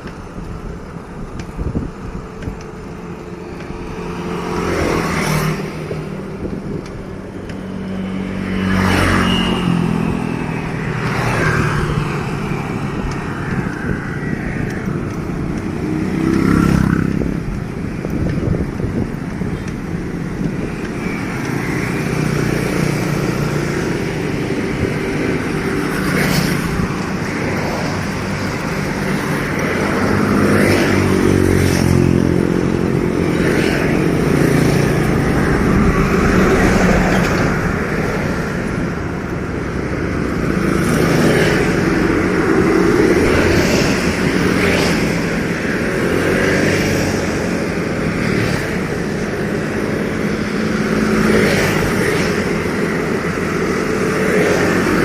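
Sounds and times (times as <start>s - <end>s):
motorcycles passing: 0.0s - 55.0s.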